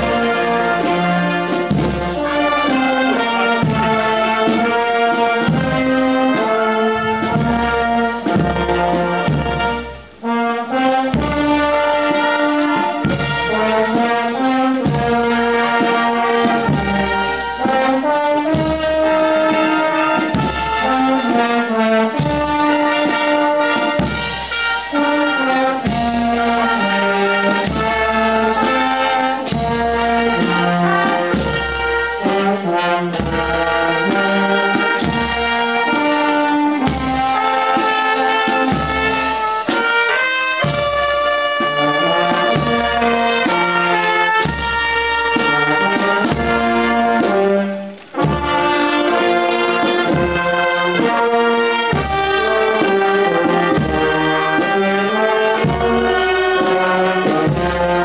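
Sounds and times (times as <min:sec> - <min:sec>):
brass band playing: 0:00.0 - 0:58.0.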